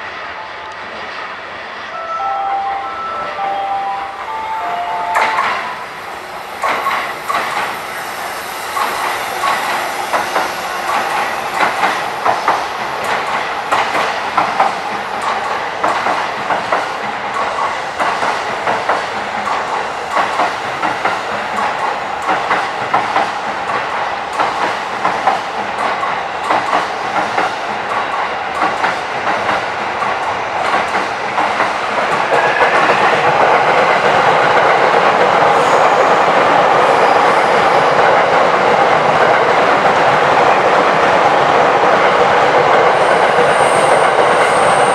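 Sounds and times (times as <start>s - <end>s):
train wheels clacking on rail joints: 6.6s - 7.8s, 8.7s - 44.9s.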